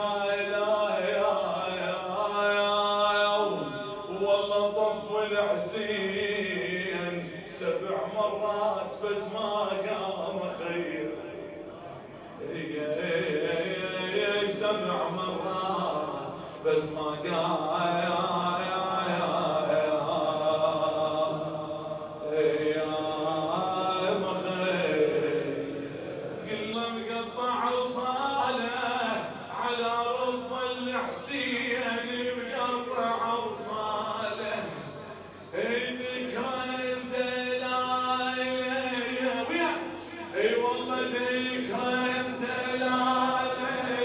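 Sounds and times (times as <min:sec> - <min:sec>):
person chanting a lament: 0:00.0 - 0:44.0.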